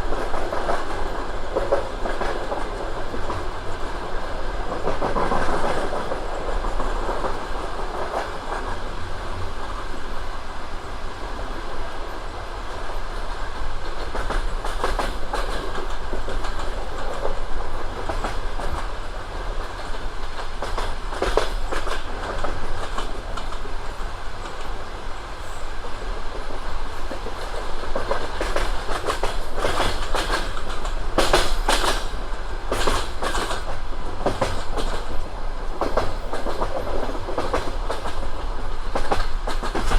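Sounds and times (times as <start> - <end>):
clickety-clack over rail joints: 0.0 - 39.9
railway wheels rumbling: 0.0 - 39.9.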